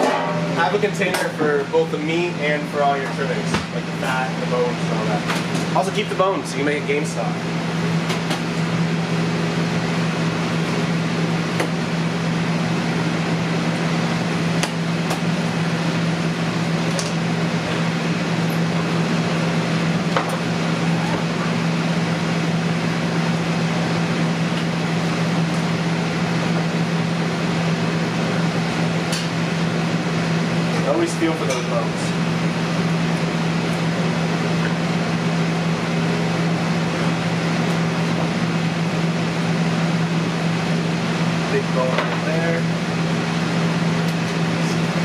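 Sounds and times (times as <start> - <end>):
kitchen equipment hum and fan: 0.0 - 45.0.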